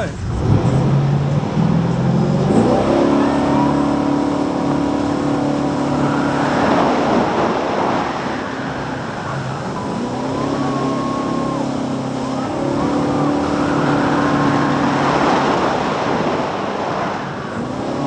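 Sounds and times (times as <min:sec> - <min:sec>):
jet boat engine revving: 0:00.0 - 0:18.0
rushing noise: 0:00.0 - 0:18.0.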